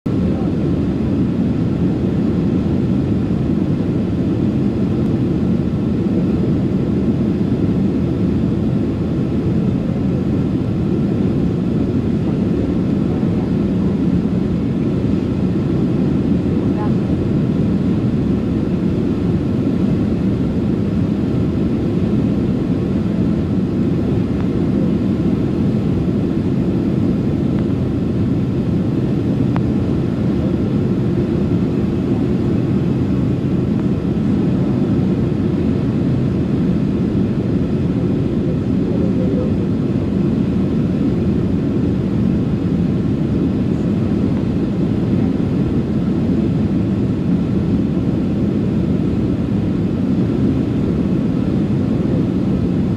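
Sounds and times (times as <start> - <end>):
airliner cabin engine drone: 0.1 - 52.9
faint steady engine tones: 0.1 - 52.9.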